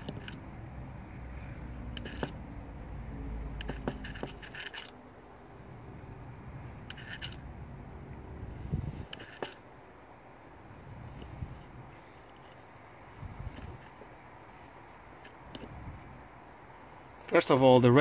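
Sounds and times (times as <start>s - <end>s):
faint electric motor buzz: 0.0s - 18.0s.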